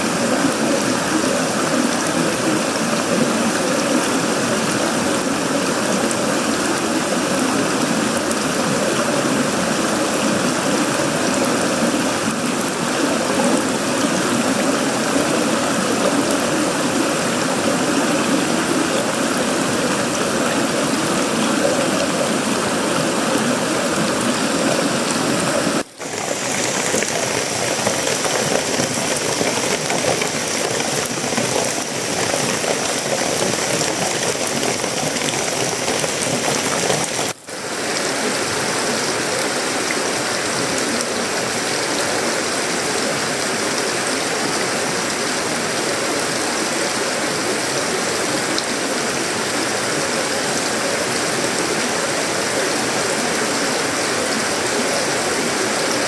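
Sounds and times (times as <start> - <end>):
heavy rain on metal roof: 0.0 - 56.0.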